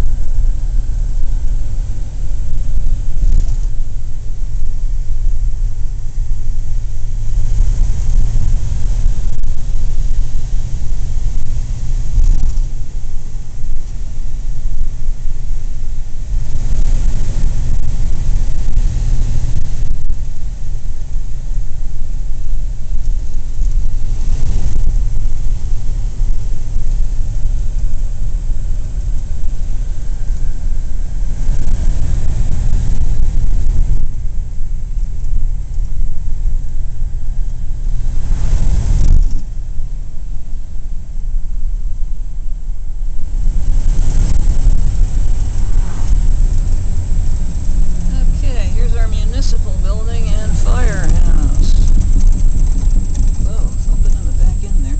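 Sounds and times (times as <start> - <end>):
car engine running: 0.0 - 54.9
tyre and wind noise: 0.0 - 54.9.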